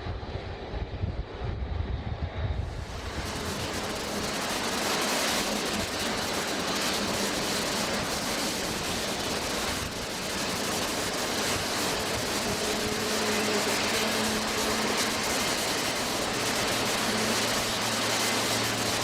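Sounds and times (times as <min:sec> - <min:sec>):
jet engines roaring: 0:02.6 - 0:19.0.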